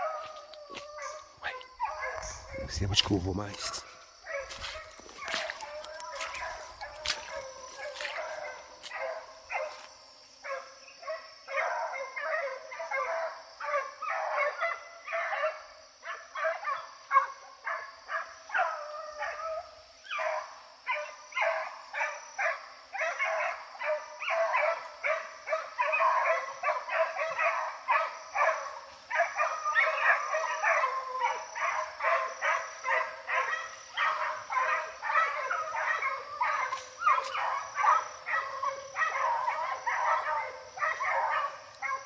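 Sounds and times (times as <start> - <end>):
hunting dogs baying: 0.0 - 42.0.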